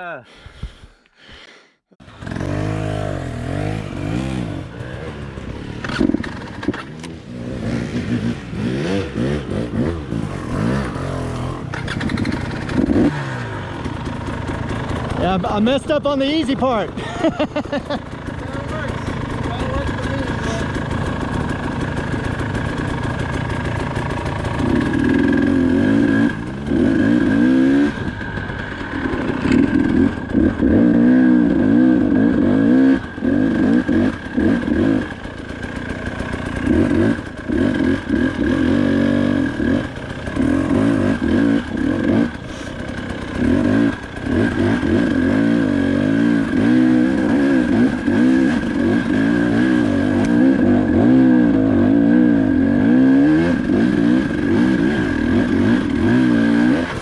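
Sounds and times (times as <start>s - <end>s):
dirt bike engine revving: 2.0s - 57.0s.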